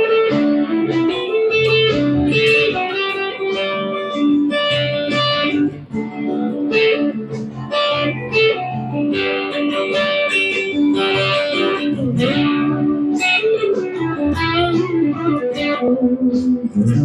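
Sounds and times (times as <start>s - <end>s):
electric guitar lead lines: 0.0s - 17.0s.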